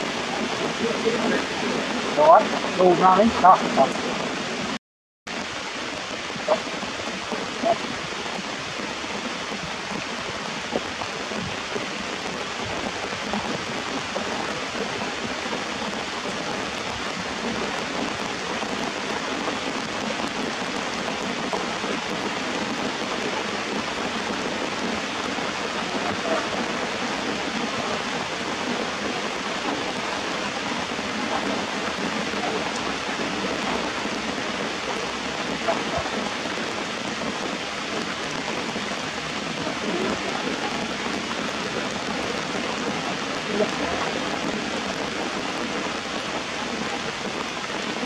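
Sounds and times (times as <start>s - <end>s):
rain falling on plants: 0.0s - 48.0s.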